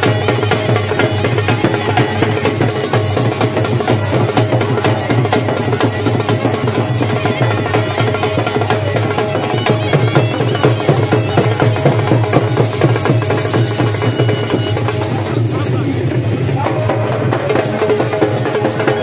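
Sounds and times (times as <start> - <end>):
folk drums beaten fast: 0.0 - 19.0.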